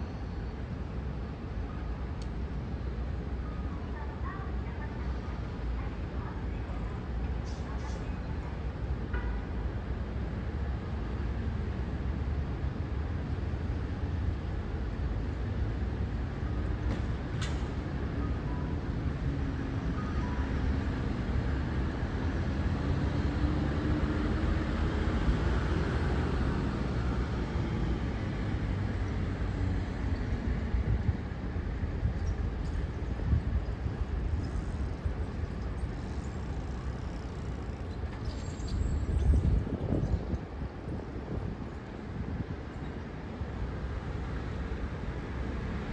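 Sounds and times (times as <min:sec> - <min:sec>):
city street traffic: 0:00.0 - 0:45.9.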